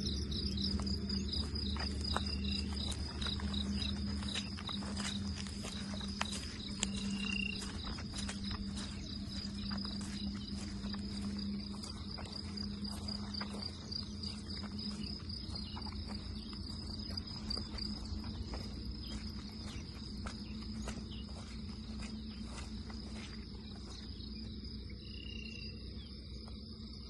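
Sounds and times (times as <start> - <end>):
insects chirping trill: 0.0 - 27.0
low hum: 0.0 - 27.0.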